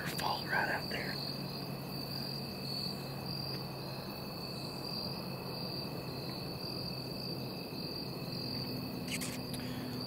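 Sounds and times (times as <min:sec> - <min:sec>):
faint steady tone: 0:00.0 - 0:10.0
insect chorus trilling: 0:00.0 - 0:10.0.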